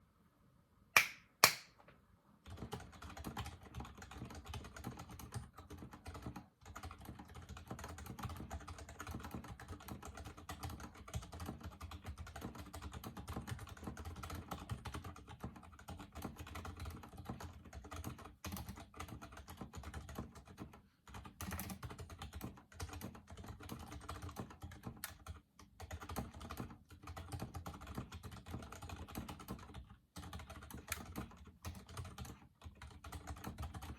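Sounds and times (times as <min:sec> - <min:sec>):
mechanical keyboard typing: 0:02.4 - 0:33.9.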